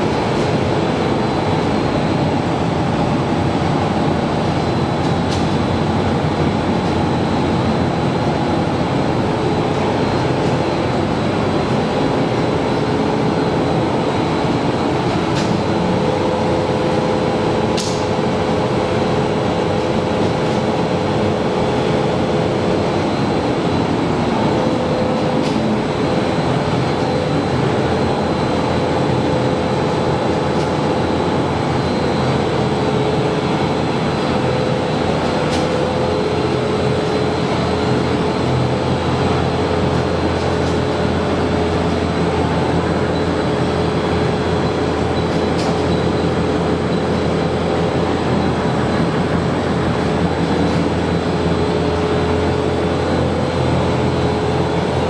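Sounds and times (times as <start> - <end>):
faint steady machine whine: 0.0 - 55.0
needle loom mechanical drone: 0.0 - 55.0.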